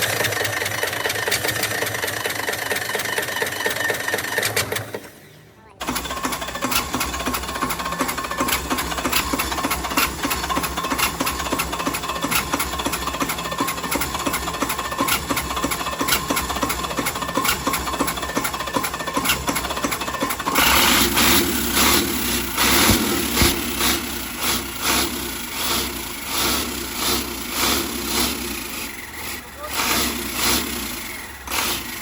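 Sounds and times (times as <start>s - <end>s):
diesel engine clattering: 0.0s - 32.0s.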